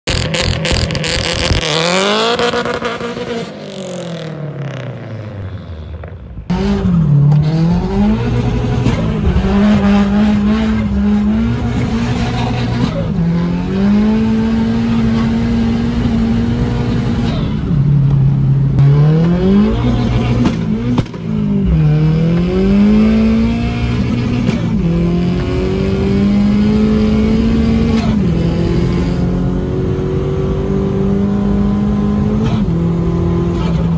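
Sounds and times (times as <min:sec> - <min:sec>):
car engine revving: 0:00.1 - 0:33.9
car engine accelerating through gears: 0:06.5 - 0:33.9.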